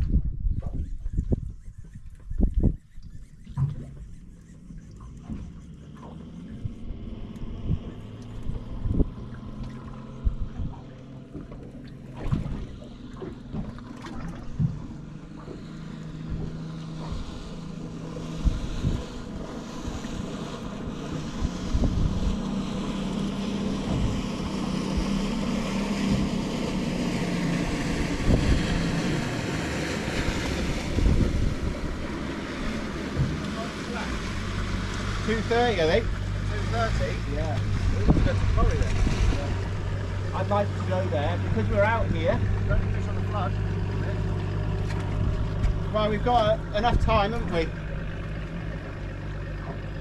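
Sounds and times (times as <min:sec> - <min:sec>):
wind buffeting microphone: 0:00.0 - 0:48.3
motorboat engine running: 0:00.0 - 0:50.0
water rushing: 0:03.5 - 0:50.0.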